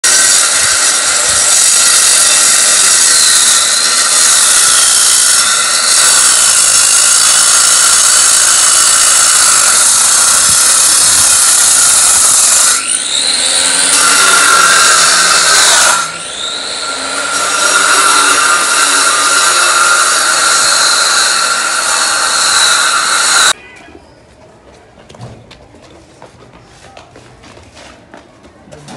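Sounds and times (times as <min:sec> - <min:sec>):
angle grinder cutting masonry: 0:00.0 - 0:23.6.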